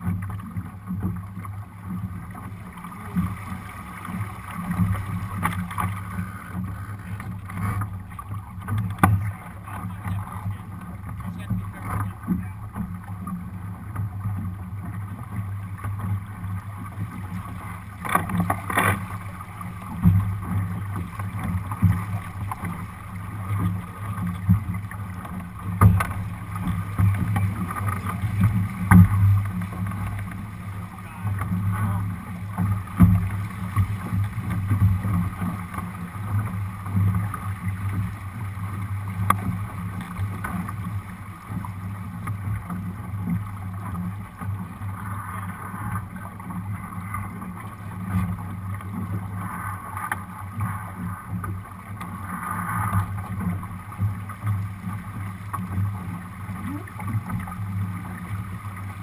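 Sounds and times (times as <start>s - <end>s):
water rushing along hull: 0.0s - 59.0s
wind: 0.0s - 59.0s.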